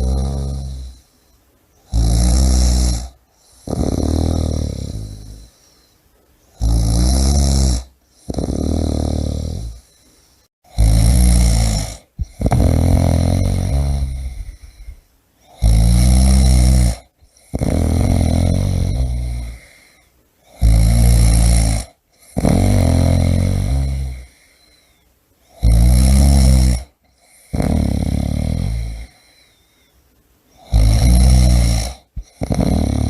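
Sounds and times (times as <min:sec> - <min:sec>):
person snoring: 0:00.0 - 0:01.2, 0:01.8 - 0:05.8, 0:06.6 - 0:29.6, 0:30.6 - 0:33.0.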